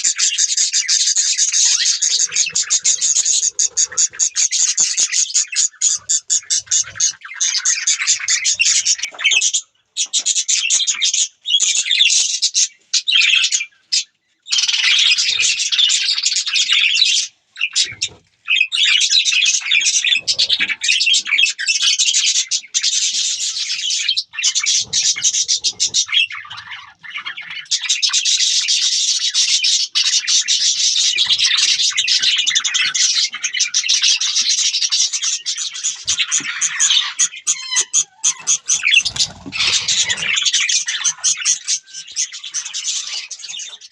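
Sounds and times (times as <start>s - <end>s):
budgerigars chirping: 0.0s - 43.9s.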